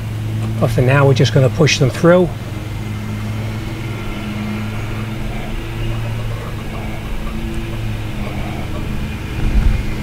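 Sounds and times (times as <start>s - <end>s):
low mechanical motor hum: 0.0s - 10.0s.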